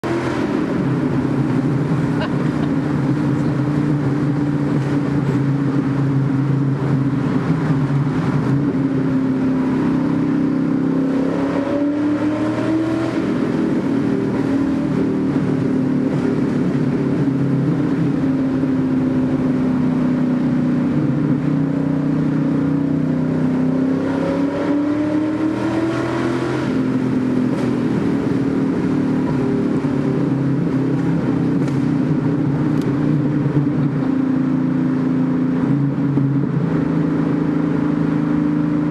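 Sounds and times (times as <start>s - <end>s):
car engine reverberating in tunnel: 0.0s - 38.9s.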